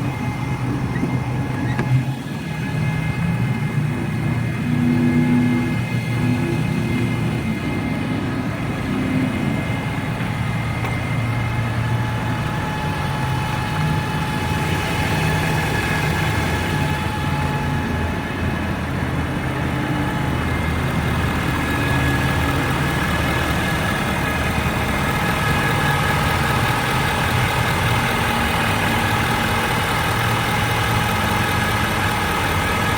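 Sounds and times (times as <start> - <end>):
diesel engine rumble: 0.0 - 32.9
high-pitched engine whine: 0.0 - 32.9.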